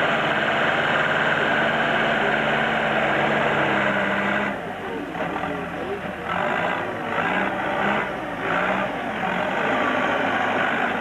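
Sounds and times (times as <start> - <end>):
diesel engine working hard: 0.0 - 11.0.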